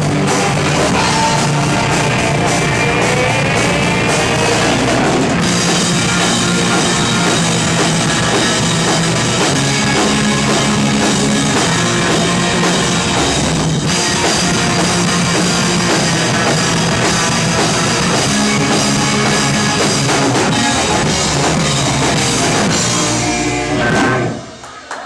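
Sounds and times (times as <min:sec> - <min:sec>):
live rock band playing: 0:00.0 - 0:24.7.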